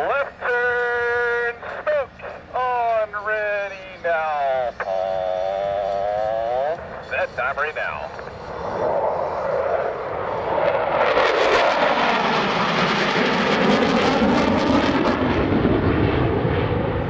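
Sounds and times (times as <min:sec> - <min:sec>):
fighter jets flying past: 0:00.0 - 0:17.0.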